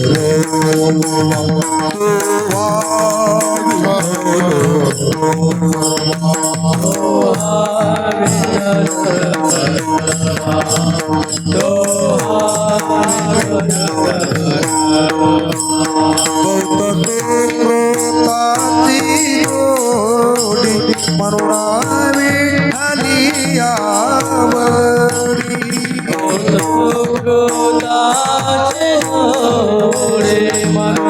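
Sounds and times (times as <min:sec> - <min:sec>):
devotional song melody: 0:00.0 - 0:31.0
hand drum beat: 0:00.0 - 0:31.0.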